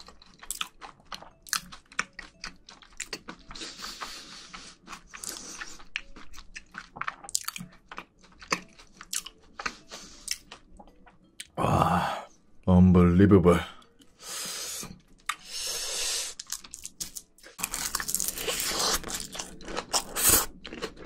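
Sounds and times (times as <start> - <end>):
person chewing food: 0.0 - 11.6, 13.8 - 21.0.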